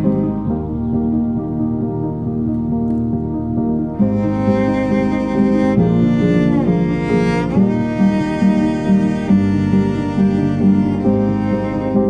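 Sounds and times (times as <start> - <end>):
bowed strings melody: 0.0 - 12.0.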